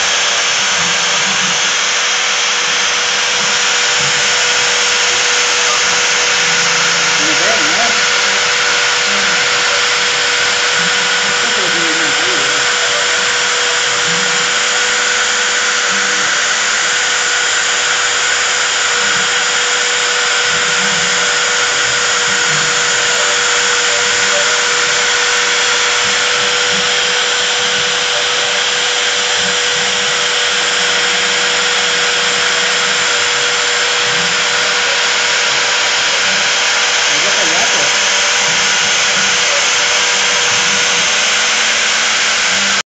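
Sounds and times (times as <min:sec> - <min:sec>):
engraving spindle whine: 0:00.0 - 0:42.9.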